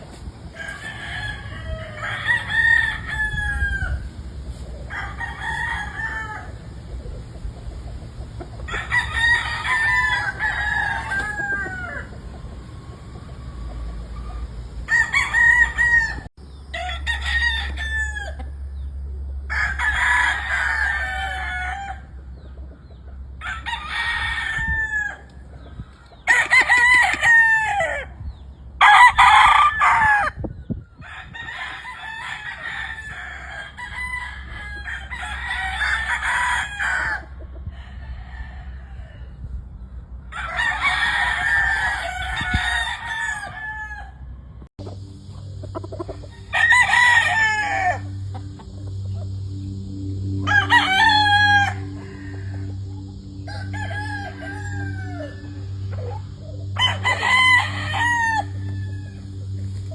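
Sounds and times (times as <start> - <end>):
roosters crowing: 0.0 - 59.9.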